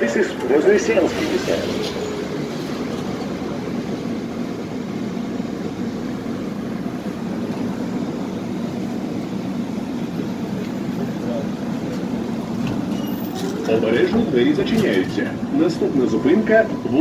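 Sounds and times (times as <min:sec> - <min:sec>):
tram interior hum: 0:00.0 - 0:17.0.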